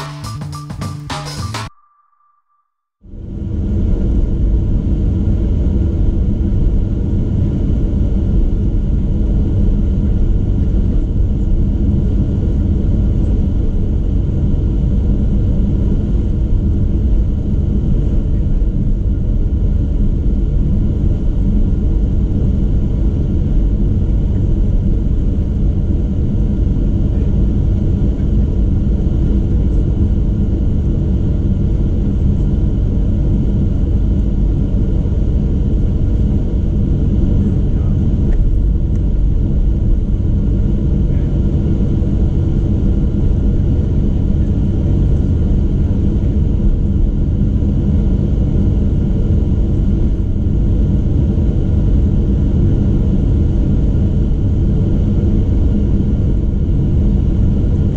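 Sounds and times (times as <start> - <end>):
airplane cabin rumble: 3.1 - 57.9.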